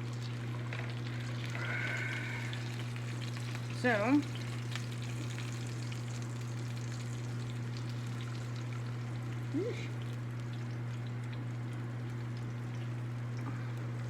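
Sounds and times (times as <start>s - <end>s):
pan crackling sizzle: 0.0s - 14.0s.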